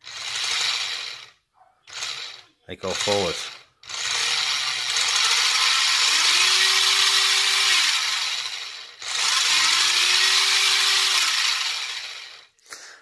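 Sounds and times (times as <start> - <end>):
toy car motor whining: 0.0 - 12.6.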